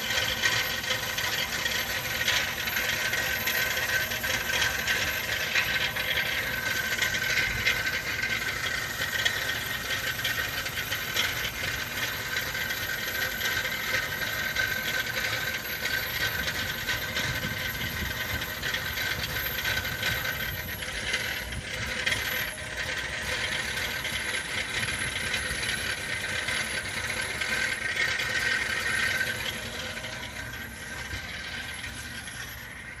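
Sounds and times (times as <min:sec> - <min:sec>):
car engine idling roughly: 0:00.0 - 0:33.0.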